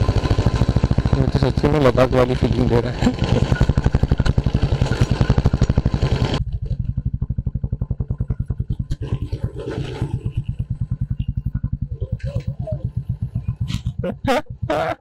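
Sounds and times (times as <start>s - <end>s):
motorcycle engine thumping at low revs: 0.0s - 15.0s.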